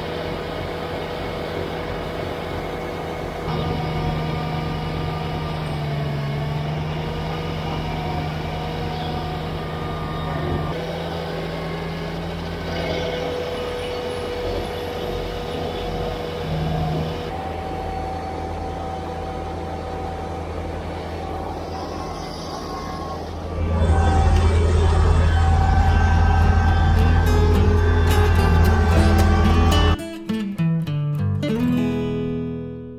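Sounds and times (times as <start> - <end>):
snowblower running: 0.0 - 30.0
tractor diesel engine running: 0.0 - 30.0.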